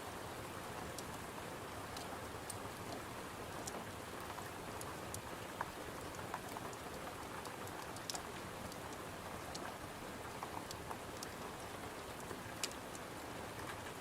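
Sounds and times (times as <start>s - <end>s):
steady rain: 0.0s - 14.0s
small sharp crackles and ticks: 0.7s - 14.0s.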